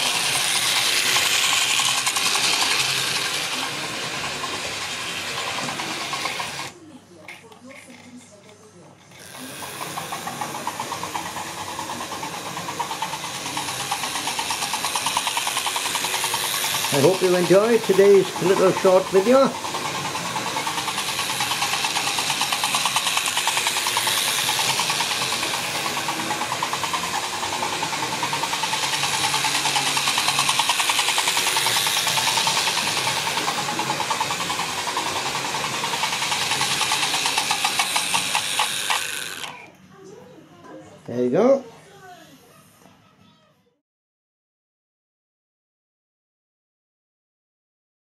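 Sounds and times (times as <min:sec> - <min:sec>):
model train motor whirring: 0:00.0 - 0:06.8, 0:07.6 - 0:39.7.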